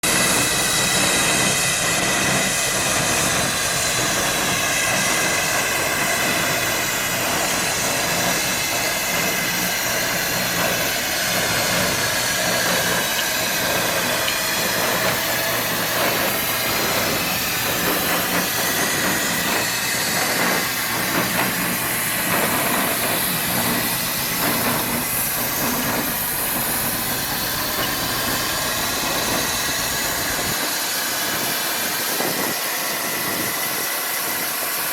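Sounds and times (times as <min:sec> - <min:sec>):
steam engine running: 0:00.0 - 0:34.9
steam hissing: 0:00.0 - 0:34.9.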